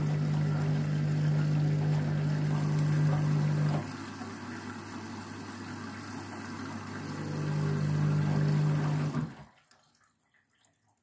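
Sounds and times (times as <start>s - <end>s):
washing machine motor hum: 0.0s - 9.6s.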